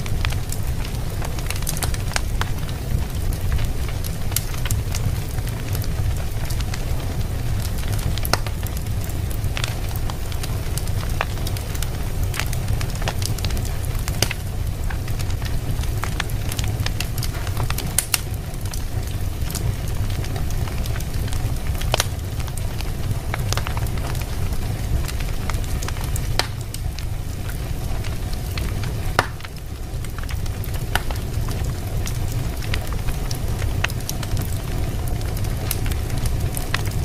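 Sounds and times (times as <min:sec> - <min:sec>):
fire crackling and popping: 0:00.0 - 0:37.0
low fire rumble: 0:00.0 - 0:37.0.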